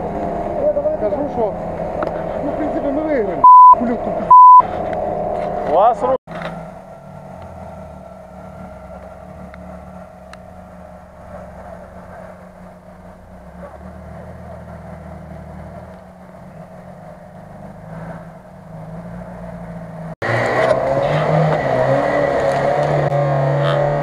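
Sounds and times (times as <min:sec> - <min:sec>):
engine revving: 0:00.0 - 0:24.0
vehicle engine droning: 0:00.0 - 0:24.0.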